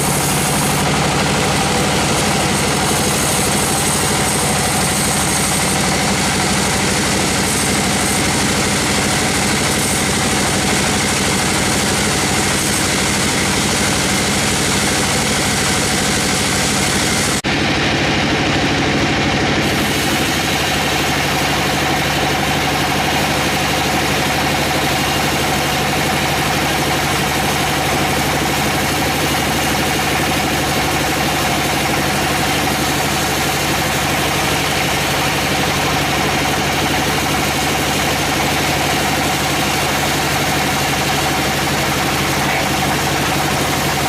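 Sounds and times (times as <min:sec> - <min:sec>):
sawmill machinery running: 0:00.0 - 0:44.0.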